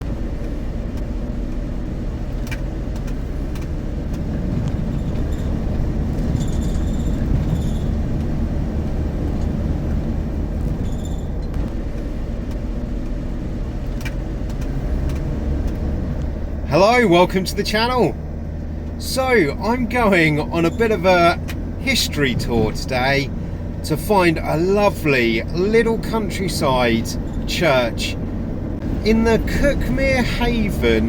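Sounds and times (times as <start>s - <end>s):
motor vehicle rumbling: 0.0s - 31.0s.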